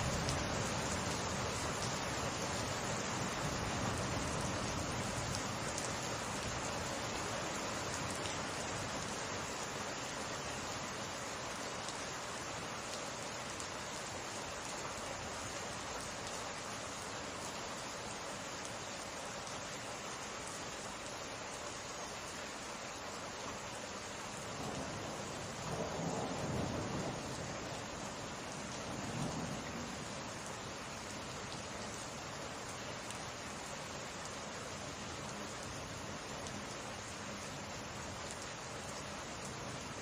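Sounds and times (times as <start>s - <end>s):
rain falling: 0.0s - 40.0s.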